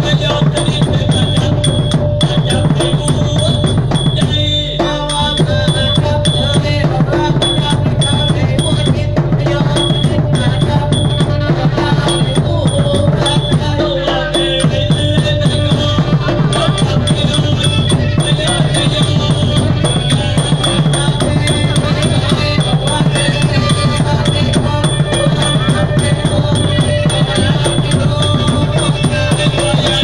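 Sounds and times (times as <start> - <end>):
drums and small cymbals: 0.0 - 30.0.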